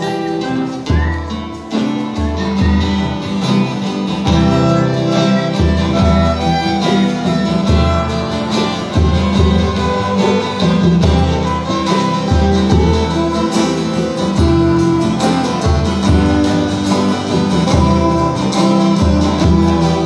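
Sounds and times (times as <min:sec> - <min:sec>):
strummed acoustic guitars: 0:00.0 - 0:20.0
violin melody: 0:00.0 - 0:20.0.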